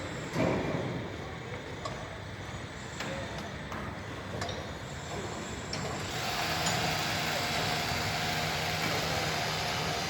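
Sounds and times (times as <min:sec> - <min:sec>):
engine running with hum and hiss: 0:00.0 - 0:10.0.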